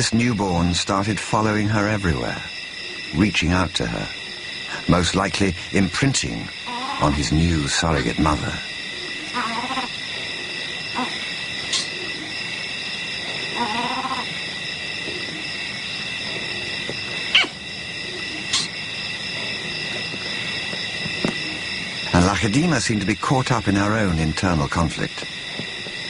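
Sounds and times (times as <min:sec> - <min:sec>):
leopard calling: 0:00.6 - 0:26.0
high-pitched chirring: 0:01.8 - 0:24.8.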